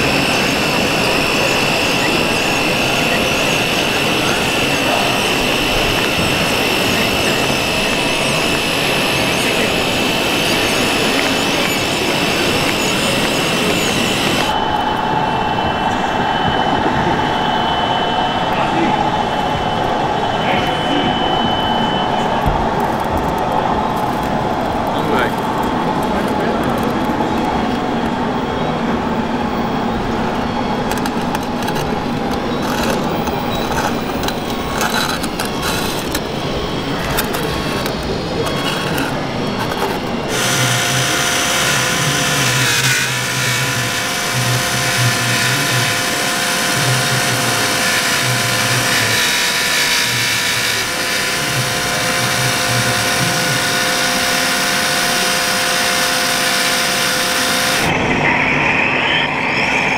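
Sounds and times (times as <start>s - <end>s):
low pulsing: 0.0s - 25.9s, 31.9s - 59.9s
model machine electric motors whining: 0.0s - 26.1s, 30.0s - 57.9s
steady whine with held tones: 0.0s - 59.9s.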